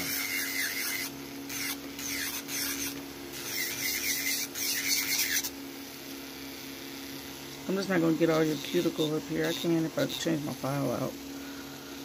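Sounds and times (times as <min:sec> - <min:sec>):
electric nail file grinding: 0:00.0 - 0:12.0.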